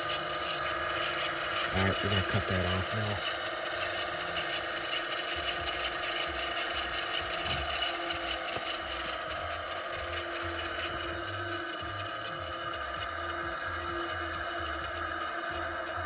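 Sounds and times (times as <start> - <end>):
electric motor whirring: 0.0 - 16.0
steady hum: 0.0 - 16.0.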